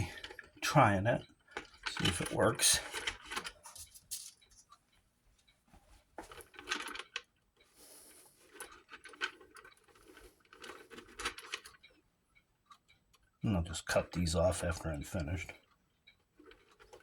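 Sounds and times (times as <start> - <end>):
clock movement clicking and rattling: 0.0 - 5.6, 6.2 - 17.0.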